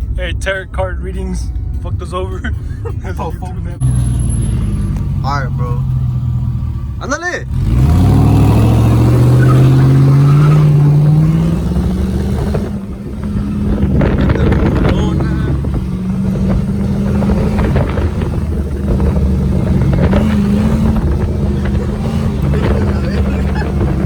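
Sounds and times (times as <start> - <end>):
vehicle engine accelerating: 0.0 - 24.0.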